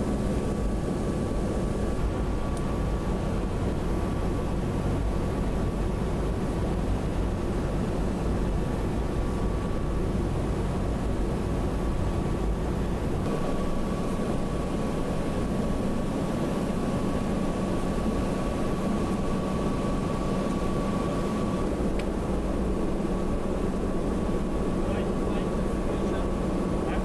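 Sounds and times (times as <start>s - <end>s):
aircraft engine and airflow drone: 0.0s - 27.0s.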